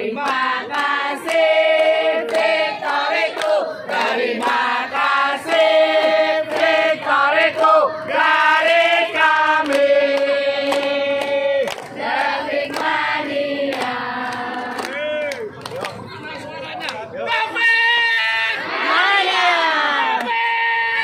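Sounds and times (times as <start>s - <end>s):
crowd singing a chant: 0.0s - 15.2s, 18.5s - 20.4s
crowd clapping along: 0.0s - 17.6s, 19.0s - 21.0s.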